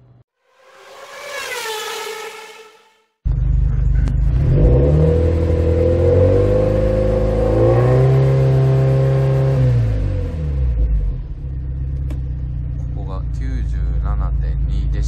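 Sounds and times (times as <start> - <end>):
car engine revving: 0.5 - 15.0.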